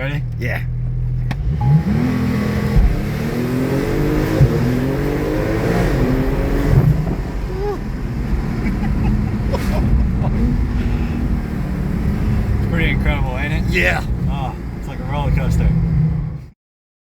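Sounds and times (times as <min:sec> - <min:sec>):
car engine accelerating hard: 0:00.0 - 0:16.4.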